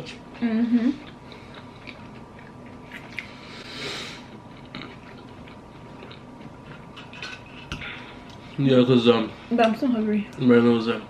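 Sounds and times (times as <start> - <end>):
people chewing food: 0.0 - 11.0.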